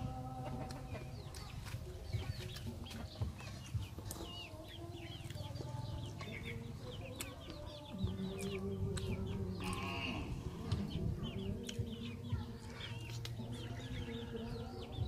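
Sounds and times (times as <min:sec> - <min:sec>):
chickens chirping: 0:00.0 - 0:15.0.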